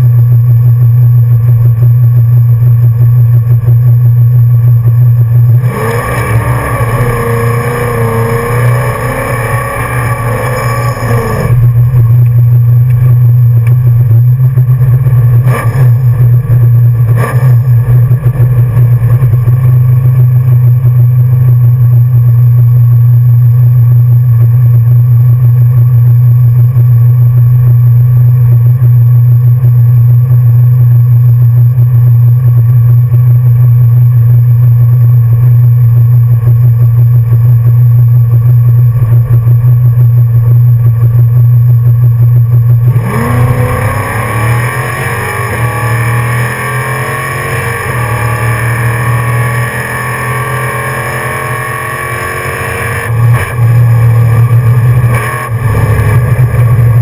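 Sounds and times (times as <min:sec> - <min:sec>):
car engine idling: 0:00.0 - 0:44.2, 0:53.0 - 0:57.0.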